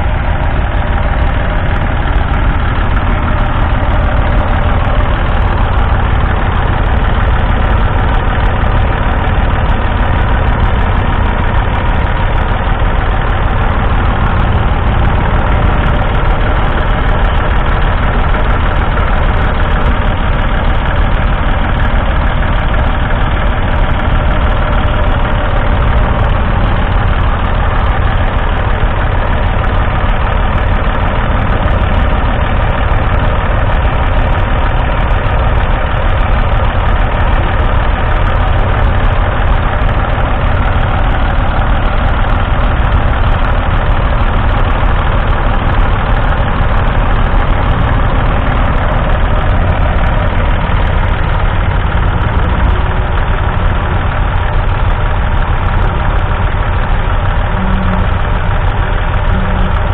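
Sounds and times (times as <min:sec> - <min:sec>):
diesel tractor engine idling: 0:00.0 - 0:59.9.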